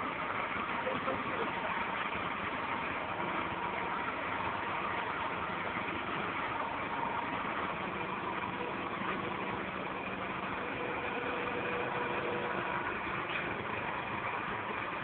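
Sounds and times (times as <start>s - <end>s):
trailer engine idling: 0.0s - 15.0s.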